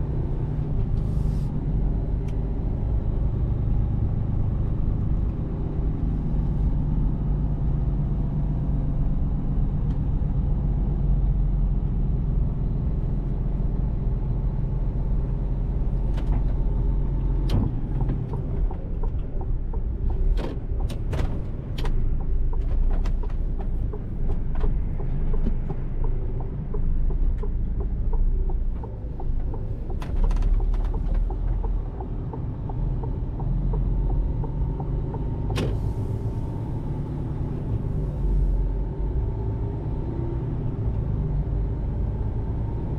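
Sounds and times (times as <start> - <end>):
truck diesel engine rumbling: 0.0 - 42.9.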